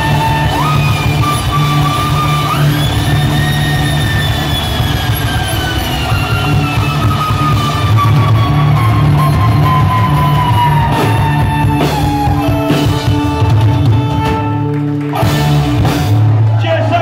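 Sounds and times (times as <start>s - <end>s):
electric guitar and bass: 0.0s - 17.0s
folk-punk band playing live: 0.0s - 17.0s.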